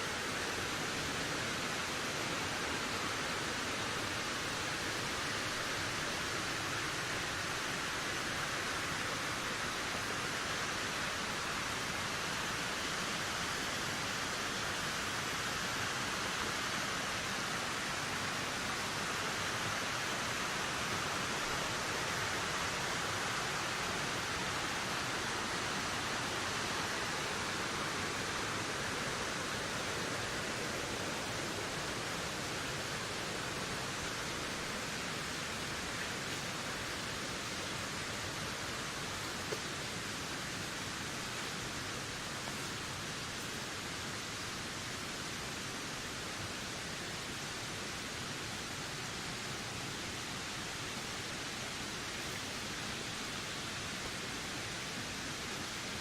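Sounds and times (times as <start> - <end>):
wind blowing steadily: 0.0 - 56.0.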